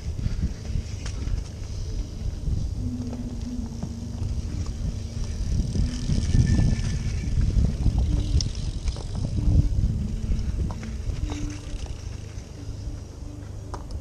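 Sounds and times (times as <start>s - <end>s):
bikes knocking: 0.0s - 14.0s
faint low hum: 0.0s - 14.0s
wind rumble on microphone: 0.0s - 14.0s.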